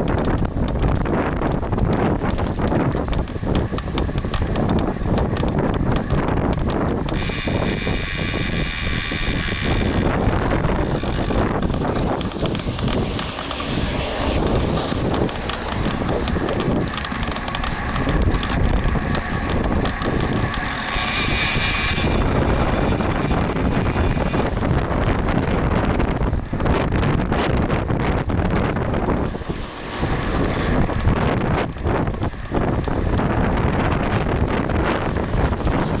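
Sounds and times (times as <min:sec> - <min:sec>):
bicycle tyre road noise: 0:00.0 - 0:36.0
wind buffeting microphone: 0:00.0 - 0:36.0.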